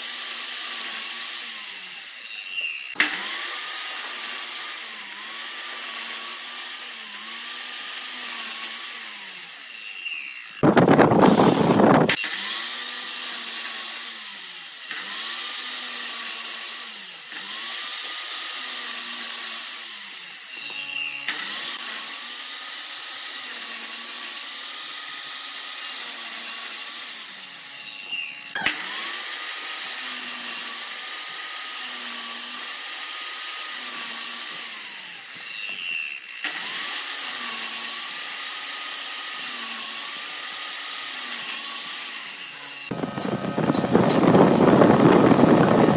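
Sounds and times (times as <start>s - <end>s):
miter saw cutting wood: 0.0s - 45.9s.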